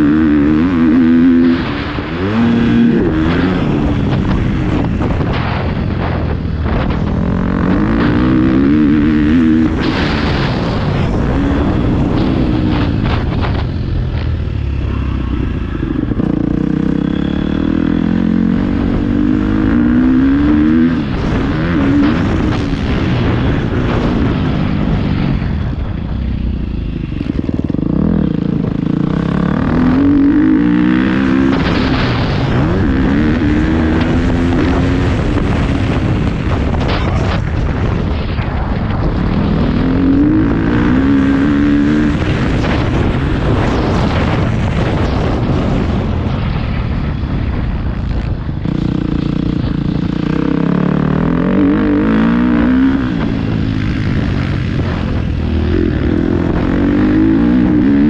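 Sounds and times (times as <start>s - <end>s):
motocross bike engine revving: 0.0s - 46.6s, 47.9s - 58.0s.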